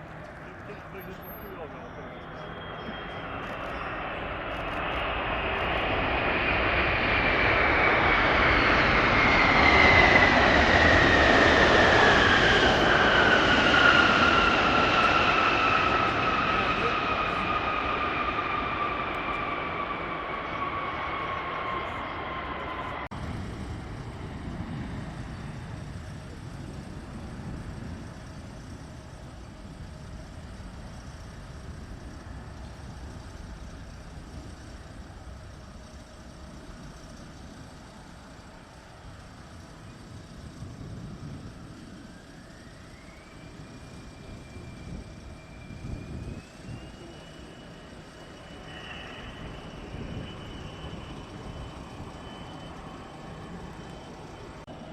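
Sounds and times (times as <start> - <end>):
jet engine whine: 0.0 - 54.9
low jet rumble: 0.0 - 54.9.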